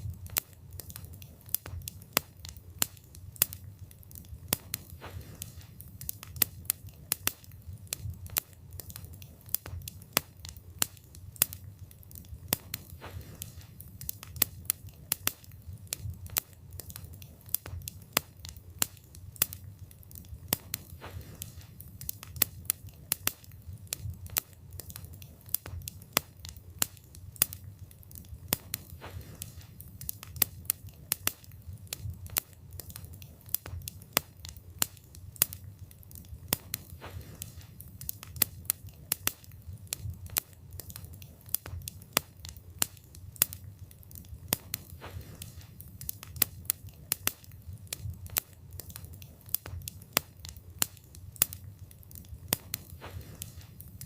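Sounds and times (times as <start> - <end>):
low rumble of flame: 0.0 - 54.0
wood crackling and popping: 0.0 - 54.0.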